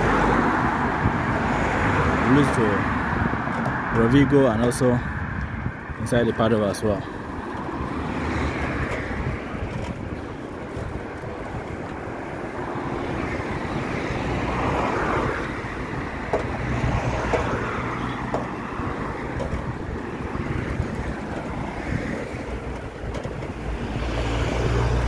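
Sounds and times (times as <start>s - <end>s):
car engine hum: 0.0s - 25.0s
tyre and road noise: 0.0s - 25.0s.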